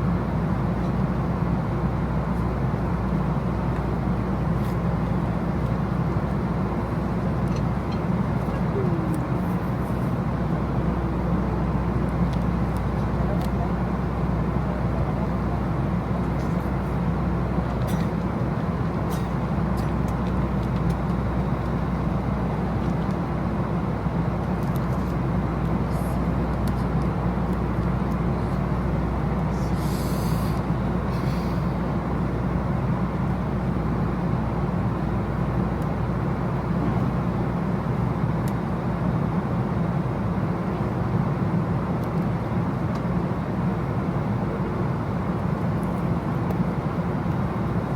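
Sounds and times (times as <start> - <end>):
vehicle interior rumble: 0.0 - 47.9.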